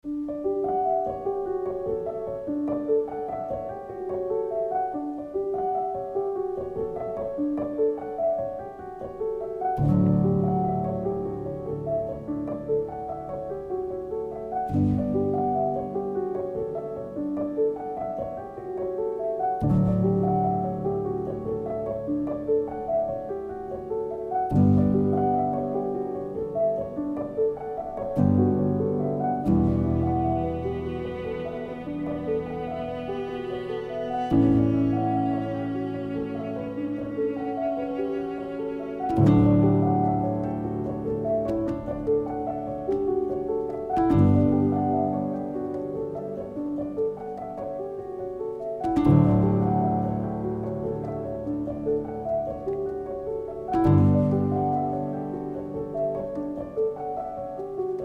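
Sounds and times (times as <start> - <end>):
gentle piano melody: 0.0 - 58.0.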